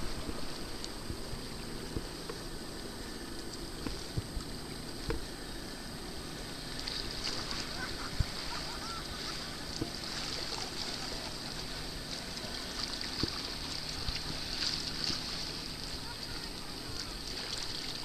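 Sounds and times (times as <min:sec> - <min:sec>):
sea water washing: 0:00.0 - 0:18.0
wind: 0:00.0 - 0:18.0.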